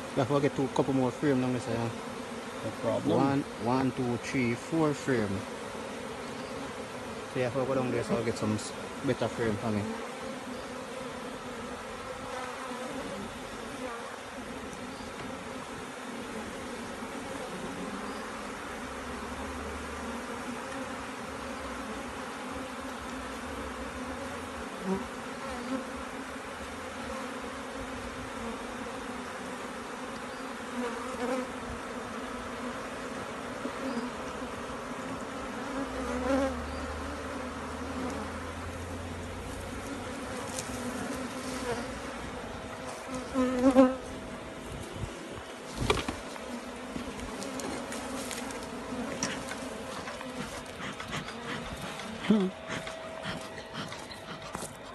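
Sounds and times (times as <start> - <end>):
bees buzzing: 0.0 - 54.9.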